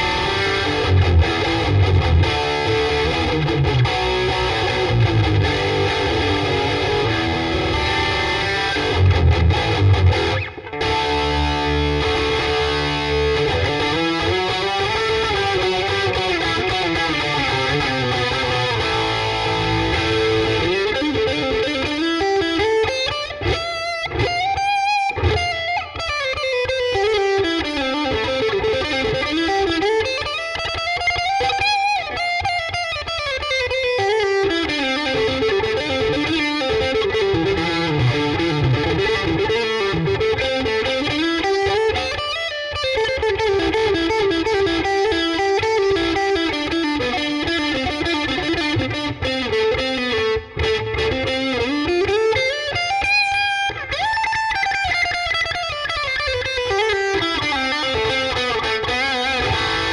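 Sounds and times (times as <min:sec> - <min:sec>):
distorted electric guitar runs: 0:00.0 - 0:59.9.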